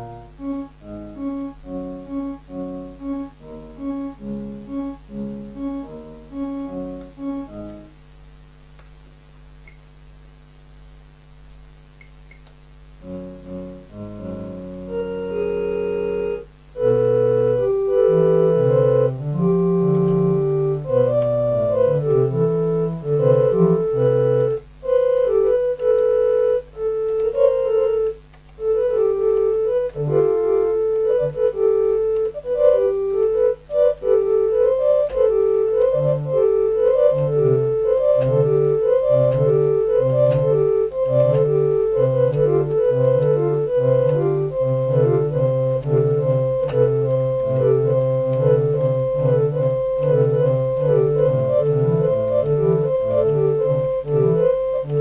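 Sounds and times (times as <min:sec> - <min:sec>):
keyboard solo: 0:00.0 - 0:08.3, 0:12.0 - 0:55.0.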